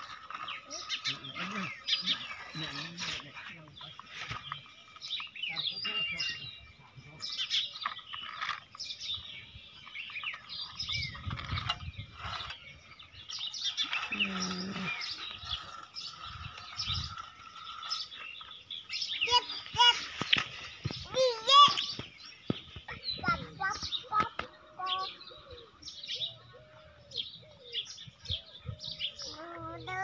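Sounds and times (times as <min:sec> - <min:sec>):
toy scraping through sand: 0:00.0 - 0:06.3, 0:07.2 - 0:25.3
small birds chirping: 0:00.0 - 0:30.0.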